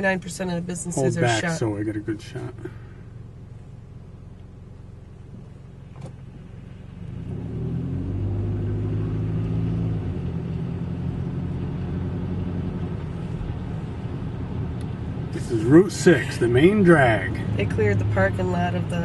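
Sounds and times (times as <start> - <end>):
car engine under load: 0.0 - 19.0.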